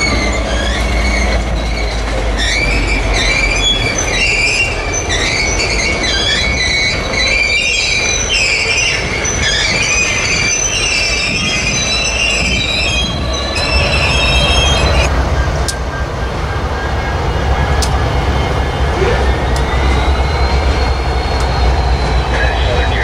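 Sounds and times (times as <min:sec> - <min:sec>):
low rumble of wheels on rail: 0:00.0 - 0:23.0
train wheels squealing: 0:00.0 - 0:23.0.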